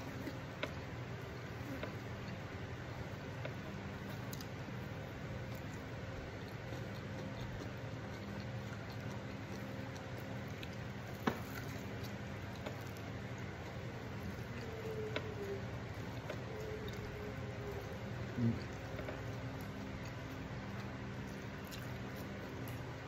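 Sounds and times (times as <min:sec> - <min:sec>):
man chewing food: 0:00.0 - 0:23.0
steady low hum: 0:00.0 - 0:23.0.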